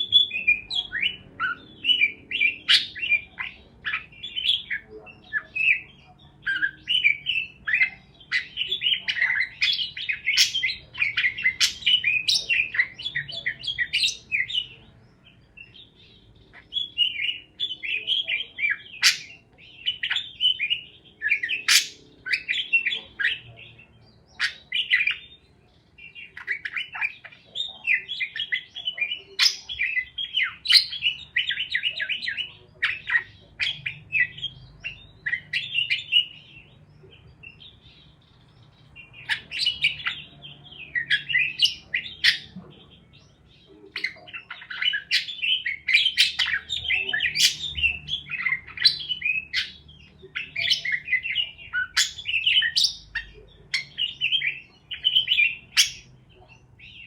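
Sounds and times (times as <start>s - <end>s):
parakeet squawks: 0.0s - 14.7s, 16.5s - 25.3s, 26.2s - 36.5s, 39.2s - 42.6s, 43.8s - 57.0s
parakeets chirping and chattering: 0.0s - 57.0s.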